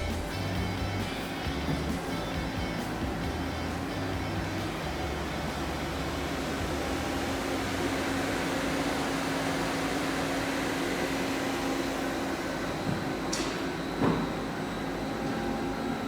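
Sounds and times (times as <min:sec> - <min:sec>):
lathe machine humming: 0:00.0 - 0:16.0.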